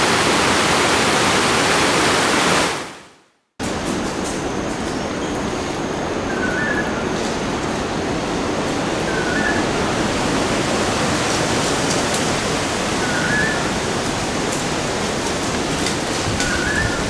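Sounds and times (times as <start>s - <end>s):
waterfall roaring: 0.0s - 3.0s, 3.6s - 17.0s.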